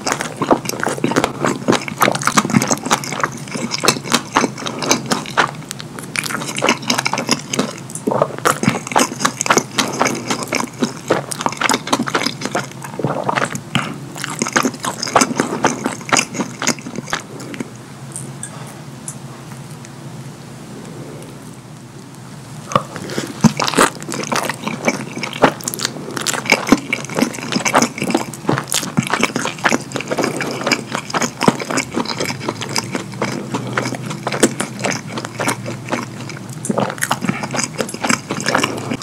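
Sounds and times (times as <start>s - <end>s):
open-mouth chewing and lip smacking: 0.0s - 18.3s, 22.7s - 39.0s.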